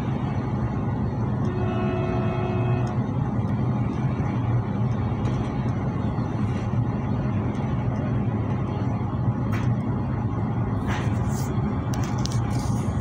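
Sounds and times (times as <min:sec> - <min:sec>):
train passing on adjacent track: 0:00.0 - 0:13.0
train rumble inside carriage: 0:00.0 - 0:13.0.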